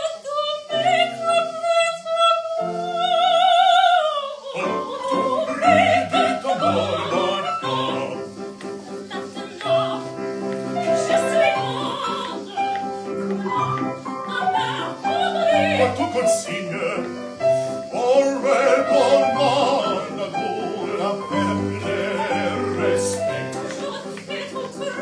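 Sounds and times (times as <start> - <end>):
operatic soprano singing: 0.0 - 25.0
piano chords: 0.0 - 25.0.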